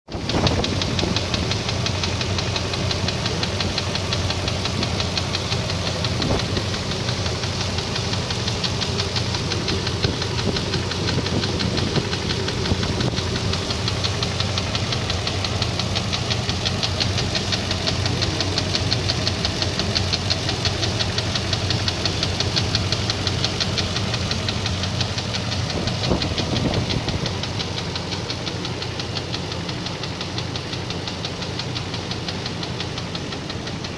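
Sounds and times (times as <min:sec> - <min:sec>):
engine running with knocking: 0:00.1 - 0:33.9.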